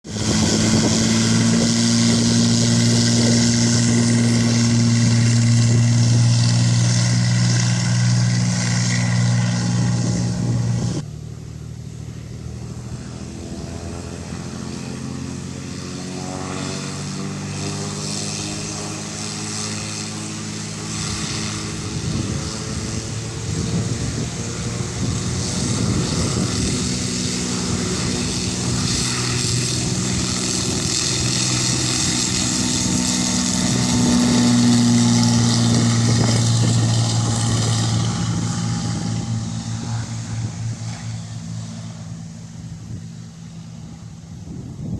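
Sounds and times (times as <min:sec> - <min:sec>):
propeller plane engine drone: 0:00.0 - 0:44.9.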